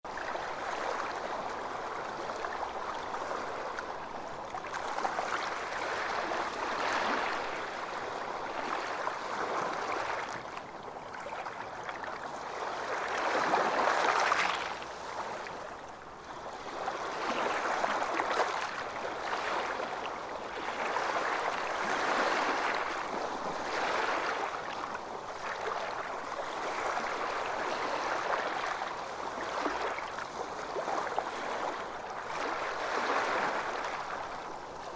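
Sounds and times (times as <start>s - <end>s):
waves lapping and sloshing: 0.1s - 34.9s.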